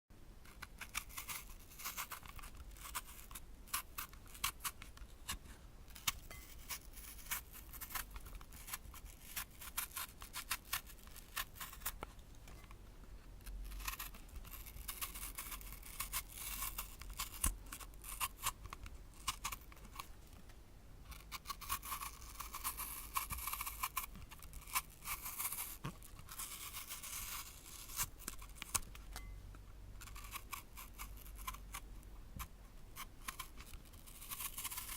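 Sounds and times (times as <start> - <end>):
blade peeling an apple: 0.4 - 20.4, 21.1 - 29.4, 30.0 - 34.9.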